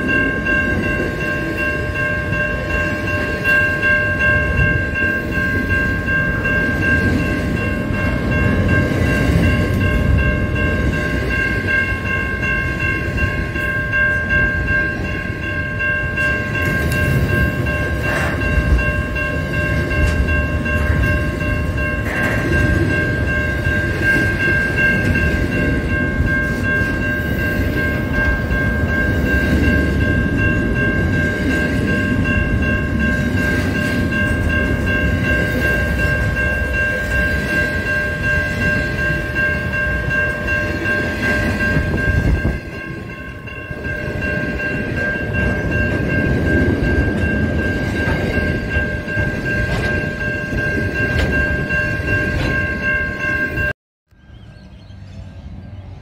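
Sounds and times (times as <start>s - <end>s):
level crossing bell ringing: 0.0s - 53.8s
freight train rumbling: 0.0s - 56.0s.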